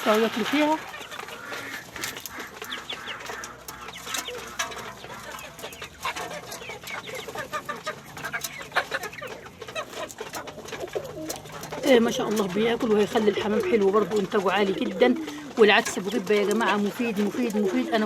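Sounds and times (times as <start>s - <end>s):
birds pecking at feed: 0.0s - 18.0s
chickens clucking: 0.0s - 18.0s.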